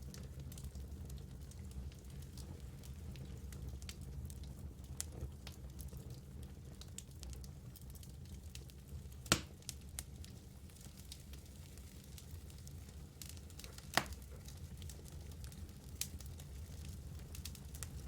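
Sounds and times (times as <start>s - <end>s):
fire crackling: 0.0s - 18.0s
fire flames rumbling: 0.0s - 18.0s.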